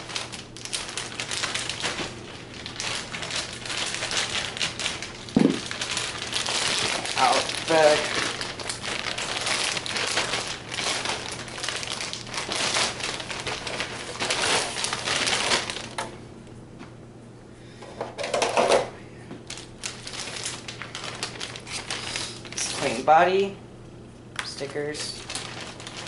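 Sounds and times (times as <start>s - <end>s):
plastic packaging crinkling: 0.0s - 16.1s, 19.4s - 23.5s, 24.4s - 26.0s.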